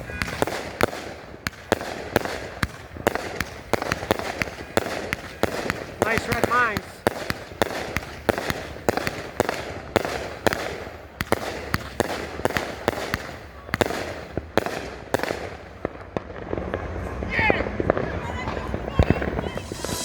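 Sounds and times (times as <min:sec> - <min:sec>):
fireworks bangs: 0:00.0 - 0:20.0
fireworks shells whooshing: 0:00.0 - 0:20.0.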